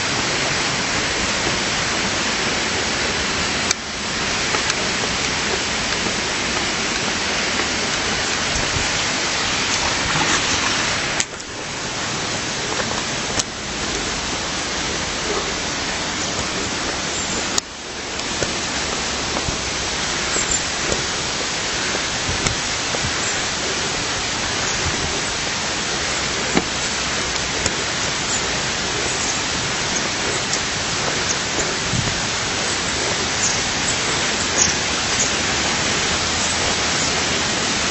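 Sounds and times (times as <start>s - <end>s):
flowing water rushing: 0.0s - 37.9s.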